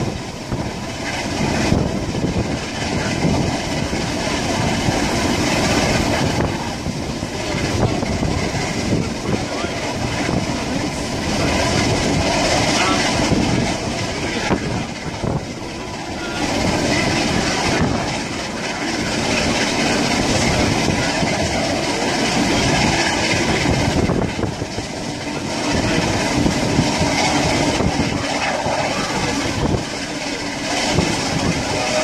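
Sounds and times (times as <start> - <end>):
train wheels rumbling and rattling: 0.0 - 32.0.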